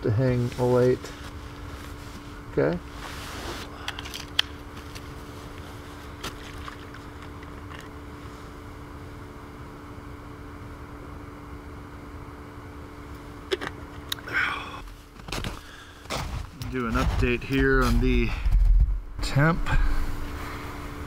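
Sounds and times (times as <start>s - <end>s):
low rumble and hiss: 0.0s - 11.8s, 12.6s - 21.0s
faint constant hum: 0.0s - 21.0s.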